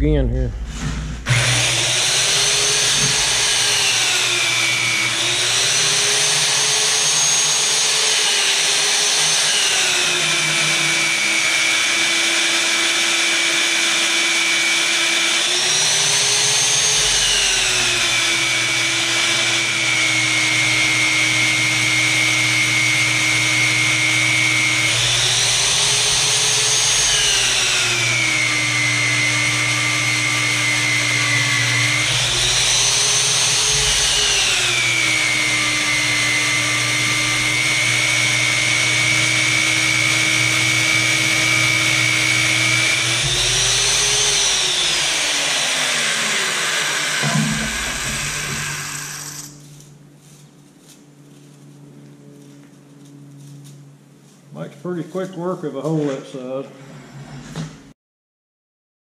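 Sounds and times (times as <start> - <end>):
drill motor whine: 1.3 - 49.8.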